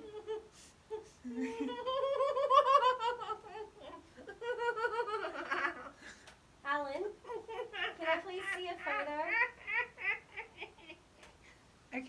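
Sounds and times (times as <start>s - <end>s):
person laughing: 0.0s - 6.2s, 7.2s - 11.3s.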